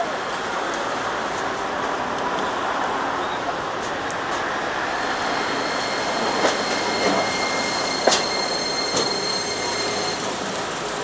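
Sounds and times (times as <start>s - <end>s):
tram high whine: 0.3s - 11.0s.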